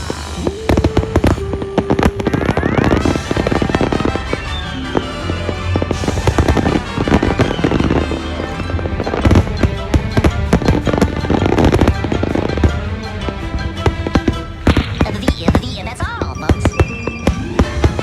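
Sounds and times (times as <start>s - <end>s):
fireworks bursts and crackling: 0.0s - 18.0s.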